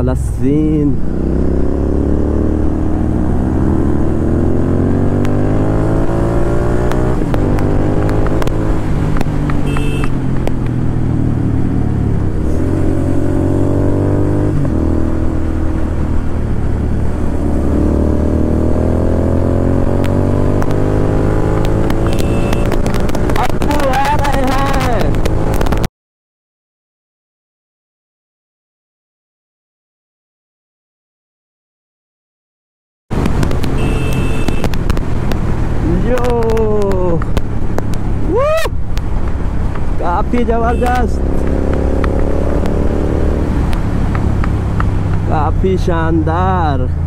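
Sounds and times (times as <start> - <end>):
motorcycle engine accelerating: 0.7 - 25.9, 33.1 - 47.0.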